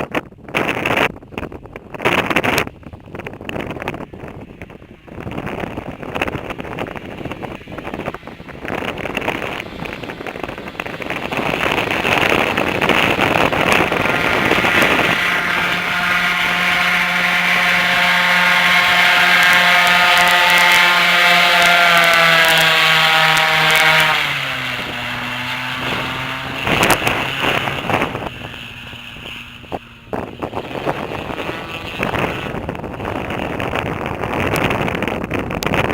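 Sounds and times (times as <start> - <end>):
airboat engine and propeller: 0.0 - 35.9
wind on microphone: 0.0 - 35.9.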